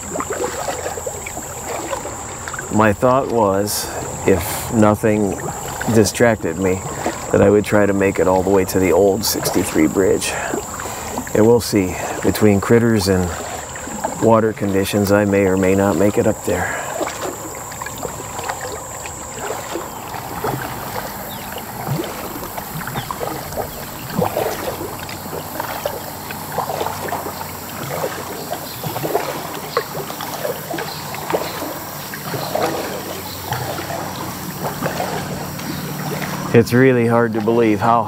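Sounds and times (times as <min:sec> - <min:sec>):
highway traffic hum: 0:00.0 - 0:38.0
paddle splashes and drips: 0:00.0 - 0:38.0.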